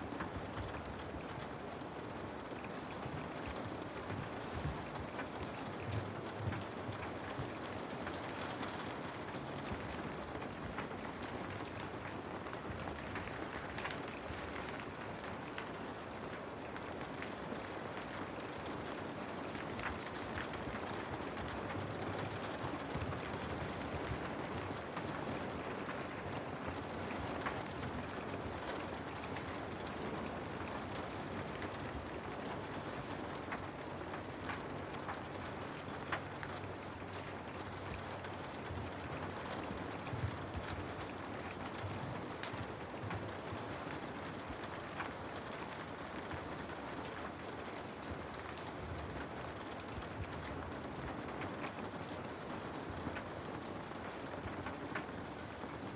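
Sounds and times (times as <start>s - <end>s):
rain on a window: 0.0s - 55.9s
raindrops ticking on glass: 0.0s - 55.9s.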